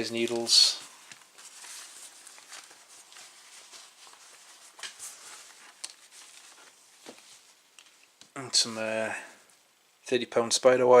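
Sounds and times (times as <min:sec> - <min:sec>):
light rustling of small items: 0:00.0 - 0:09.7.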